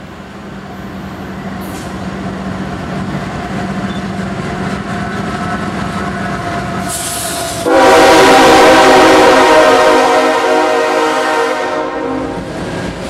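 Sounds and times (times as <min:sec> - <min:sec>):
diesel locomotive engine hum: 0:00.0 - 0:13.0
wheel and rail rumble: 0:00.0 - 0:13.0.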